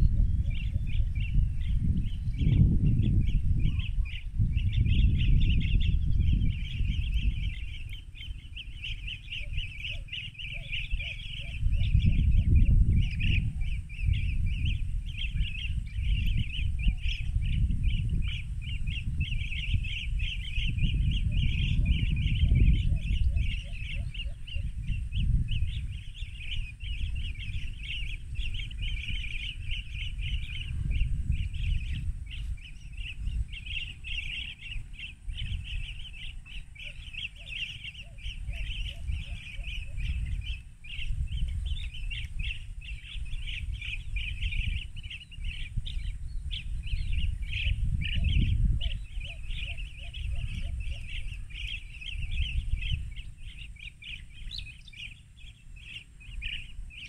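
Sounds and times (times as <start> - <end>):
birds trilling chatter: 0.0 - 57.0
lower bird notes: 0.0 - 57.0.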